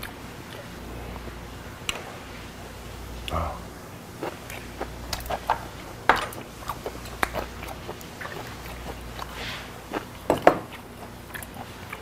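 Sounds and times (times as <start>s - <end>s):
person chewing with wet smacks: 0.0s - 2.2s, 4.2s - 12.0s.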